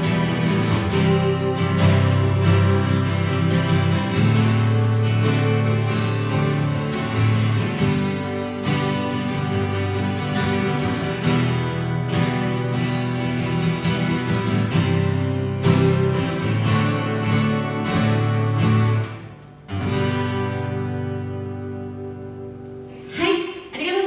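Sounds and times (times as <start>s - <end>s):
acoustic guitars strumming: 0.0s - 24.0s.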